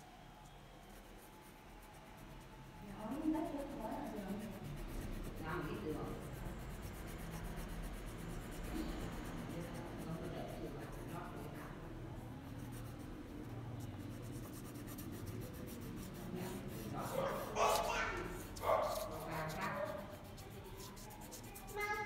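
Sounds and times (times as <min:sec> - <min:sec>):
crayon rubbing on paper: 0:00.9 - 0:22.0.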